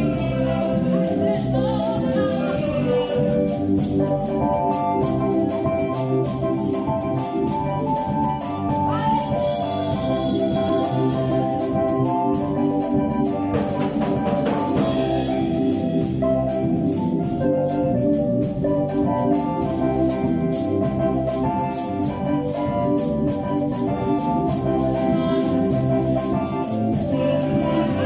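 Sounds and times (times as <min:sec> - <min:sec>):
band playing instrumental music: 0:00.0 - 0:28.0.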